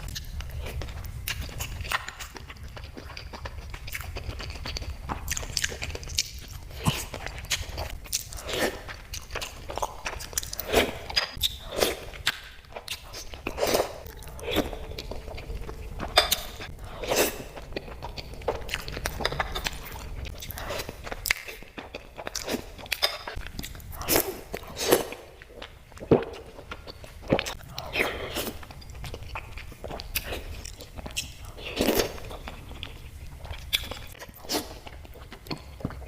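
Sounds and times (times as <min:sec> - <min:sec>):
crunchy chewing of sweets: 0:00.0 - 0:36.0.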